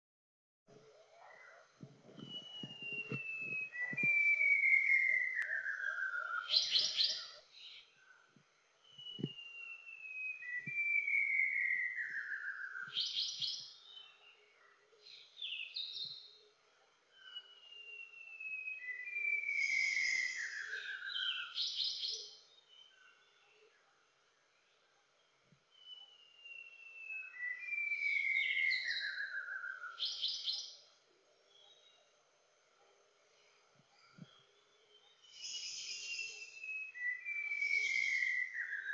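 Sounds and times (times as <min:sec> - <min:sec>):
bird singing whistled notes: 0:01.2 - 0:08.2, 0:08.8 - 0:16.5, 0:17.1 - 0:23.8, 0:25.6 - 0:32.1, 0:33.4 - 0:38.9.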